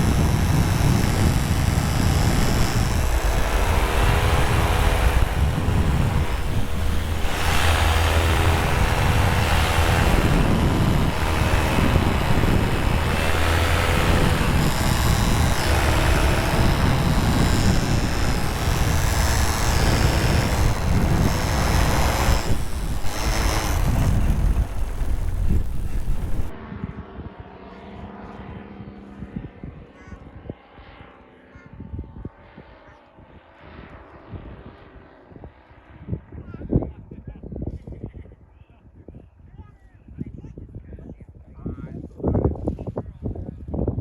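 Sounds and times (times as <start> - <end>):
paramotor engine and propeller: 0.0 - 37.0
wind rumble on microphone: 0.0 - 44.0.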